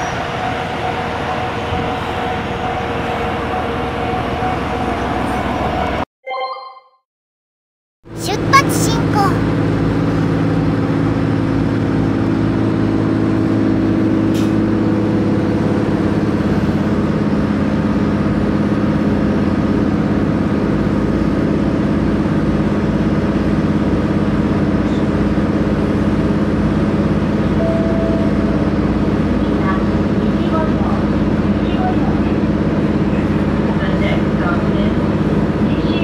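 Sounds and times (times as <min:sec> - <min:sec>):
train engine drone: 0:00.0 - 0:06.0, 0:09.4 - 0:36.0.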